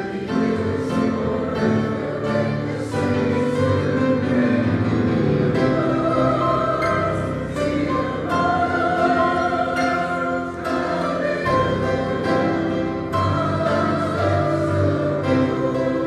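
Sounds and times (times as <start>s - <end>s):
grand piano chords: 0.0s - 16.0s.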